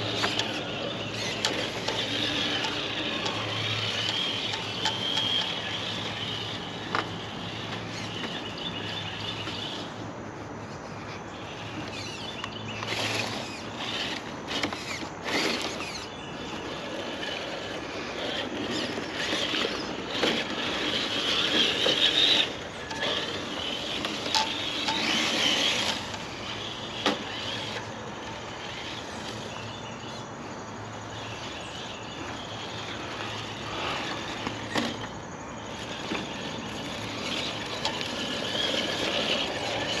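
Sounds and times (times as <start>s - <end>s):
electric motor whine: 0.0s - 40.0s.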